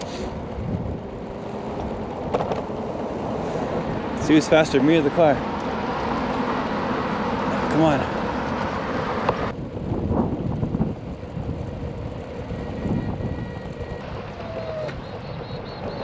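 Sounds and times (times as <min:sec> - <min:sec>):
wheels rumbling on path: 0:00.0 - 0:16.0
wind rushing over microphone: 0:00.0 - 0:16.0.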